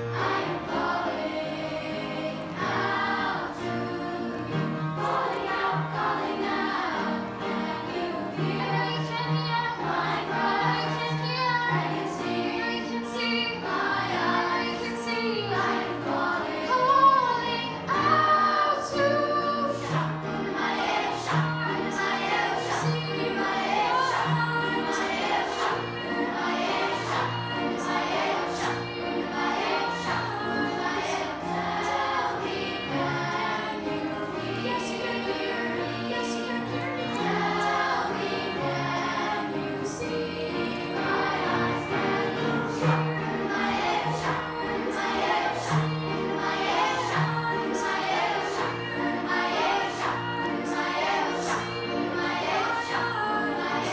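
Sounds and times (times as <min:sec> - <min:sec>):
children's choir singing: 0:00.0 - 0:53.9.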